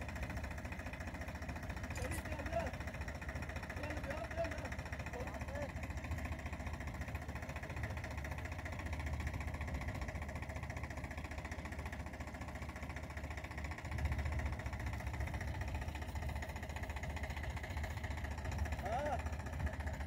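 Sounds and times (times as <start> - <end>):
tractor diesel engine rumbling: 0.0 - 20.0.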